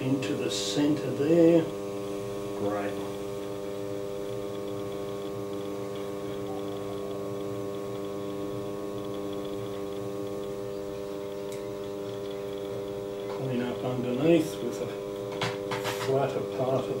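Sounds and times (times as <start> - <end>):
potter's wheel electrical hum: 0.0 - 17.0.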